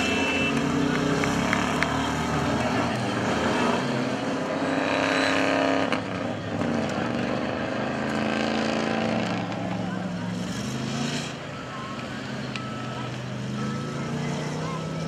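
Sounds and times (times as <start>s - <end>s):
off-road engine running hard: 0.0s - 15.0s.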